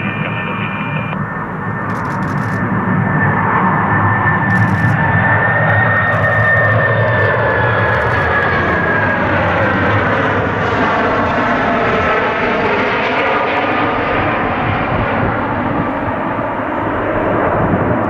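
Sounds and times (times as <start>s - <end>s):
jet airliner passing low: 0.0s - 18.0s.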